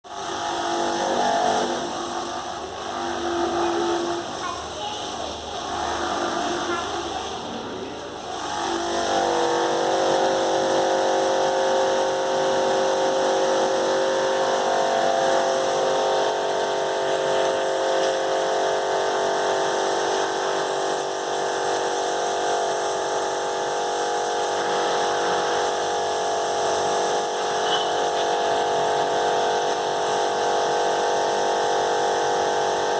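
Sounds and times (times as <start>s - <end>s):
electric motor humming: 5.2s - 32.8s.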